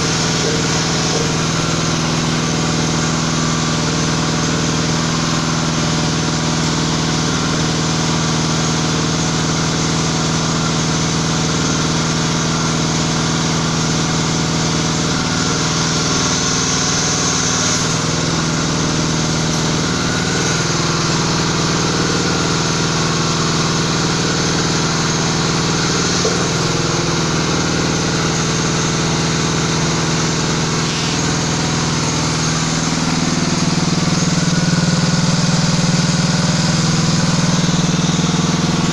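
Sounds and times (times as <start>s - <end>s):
hydraulic pump humming: 0.0s - 38.9s.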